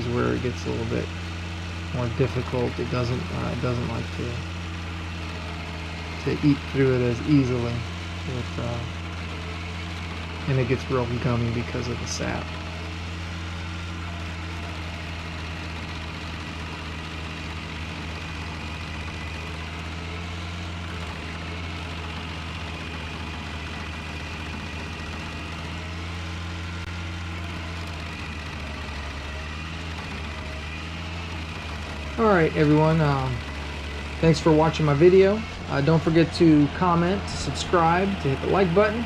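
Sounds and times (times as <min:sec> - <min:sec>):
stump grinder engine running: 0:00.0 - 0:39.0.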